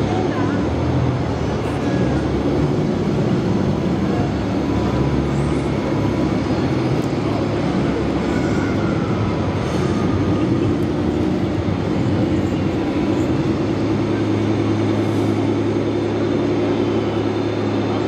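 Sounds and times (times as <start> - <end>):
model crane motors running: 0.0 - 18.0.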